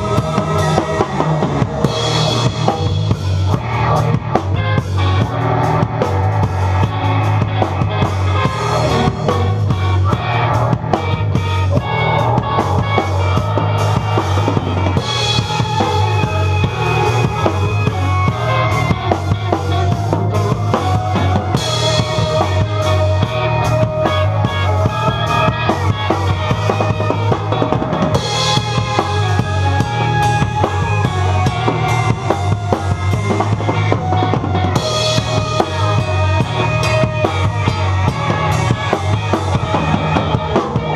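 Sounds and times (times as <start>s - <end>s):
bass drum: 0.0s - 40.9s
rock music: 0.0s - 40.9s.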